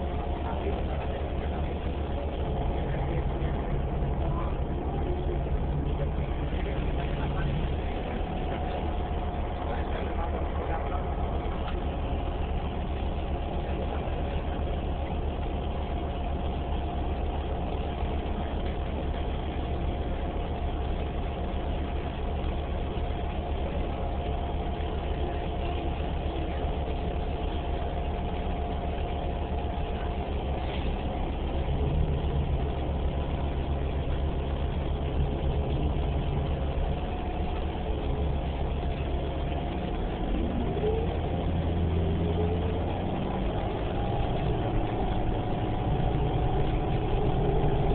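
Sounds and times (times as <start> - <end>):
bus drivetrain hum: 0.0 - 47.9
faint rising whine: 0.0 - 47.9.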